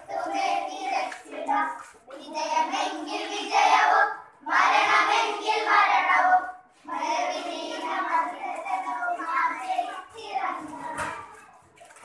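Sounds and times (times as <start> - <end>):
children singing in unison: 0.0 - 11.3.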